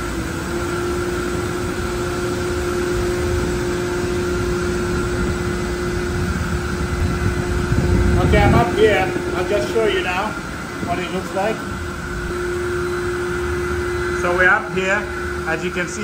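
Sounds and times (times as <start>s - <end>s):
machinery drone: 0.0s - 16.0s
steady humming tone: 0.0s - 16.0s.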